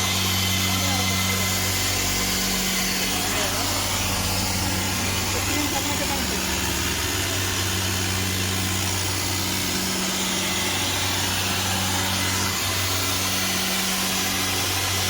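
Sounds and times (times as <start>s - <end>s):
compressor running: 0.0s - 15.0s.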